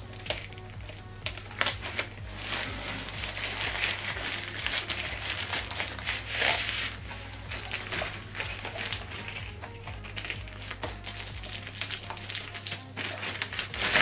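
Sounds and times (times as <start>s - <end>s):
plastic sleeve crinkling and rustling: 0.0s - 14.0s.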